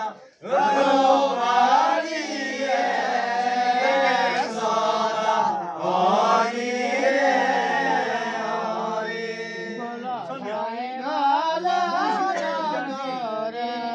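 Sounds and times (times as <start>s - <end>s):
men singing folk song: 0.0s - 13.9s.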